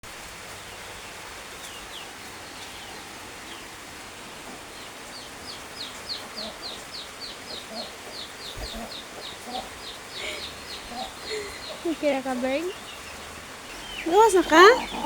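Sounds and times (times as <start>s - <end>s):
chicks peeping: 0.5s - 15.0s.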